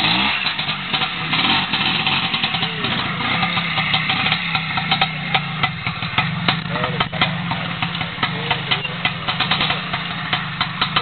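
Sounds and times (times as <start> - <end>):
motorcycle engine at low revs: 0.0 - 11.0
sharp clicks and knocks: 0.3 - 11.0.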